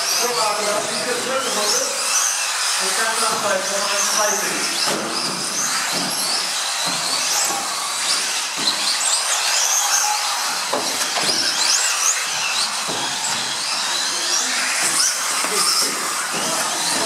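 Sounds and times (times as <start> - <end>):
model car motors whining: 0.0 - 17.0.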